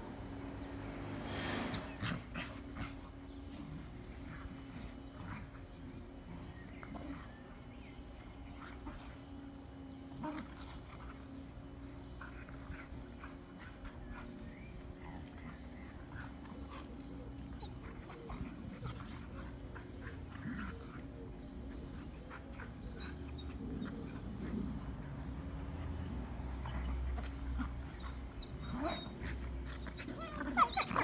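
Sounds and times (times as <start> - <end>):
dogs scuffling on grass: 0.0 - 31.0.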